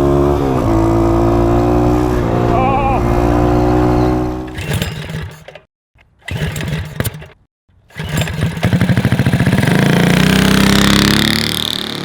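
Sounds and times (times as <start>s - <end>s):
small engine running and revving: 0.0s - 12.0s.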